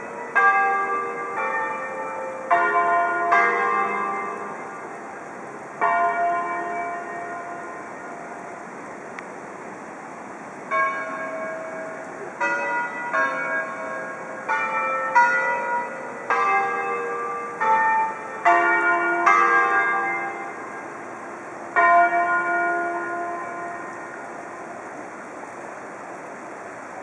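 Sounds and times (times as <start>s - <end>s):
church bells ringing: 0.0s - 9.0s, 10.7s - 25.6s
river noise: 0.0s - 27.0s.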